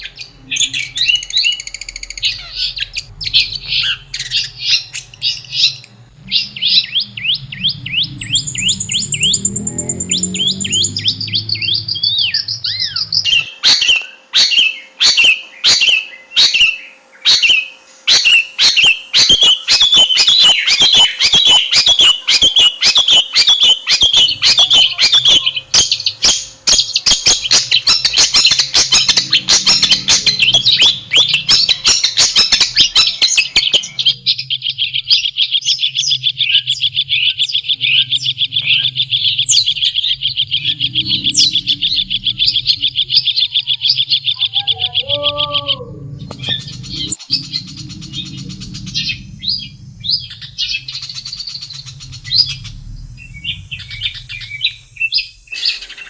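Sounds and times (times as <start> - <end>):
shrike singing: 0.0 - 56.0.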